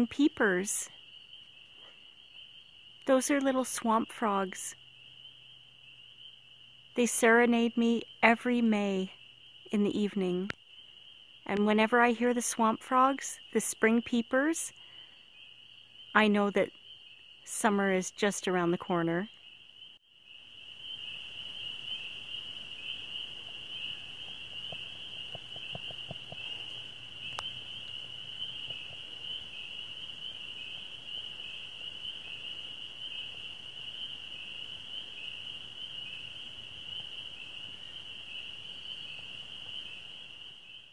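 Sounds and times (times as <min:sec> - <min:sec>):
chorus of frogs peeping: 0:00.0 - 0:40.9.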